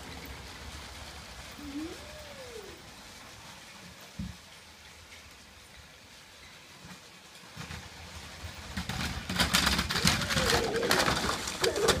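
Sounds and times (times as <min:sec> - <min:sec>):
toy train motor rumble: 0:00.0 - 0:12.0
wheels clicking over track joints: 0:00.0 - 0:12.0.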